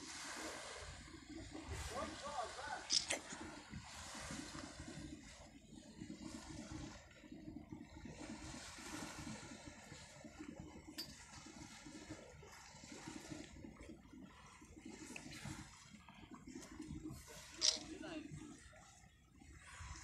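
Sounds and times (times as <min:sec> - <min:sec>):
sea water washing around boat: 0:00.0 - 0:20.0.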